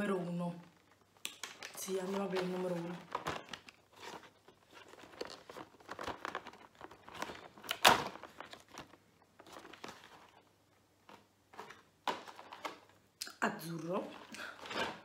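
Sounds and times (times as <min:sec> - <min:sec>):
cardboard and foil crinkling: 0:00.8 - 0:13.0.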